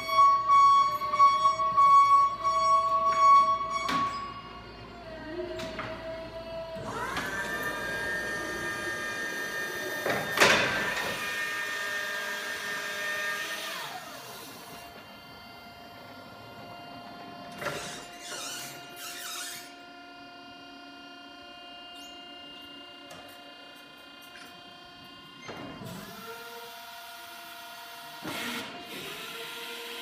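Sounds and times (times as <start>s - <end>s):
hydraulic pump motor whining: 0.0s - 30.0s.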